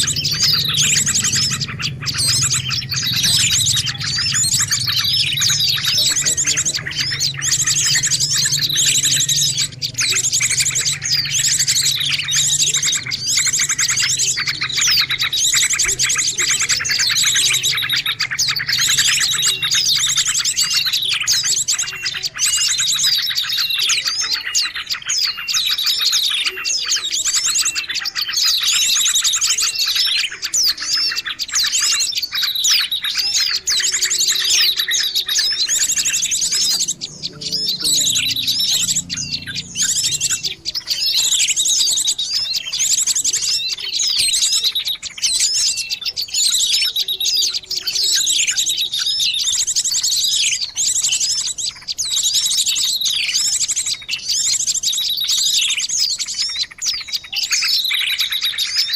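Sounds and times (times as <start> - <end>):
small birds chirping and trilling: 0.0 - 58.9.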